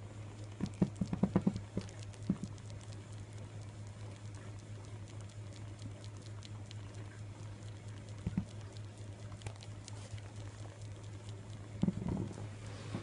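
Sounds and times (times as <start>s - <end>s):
steady low hum: 0.0s - 13.0s
kitten chewing toy clicks: 0.4s - 12.5s.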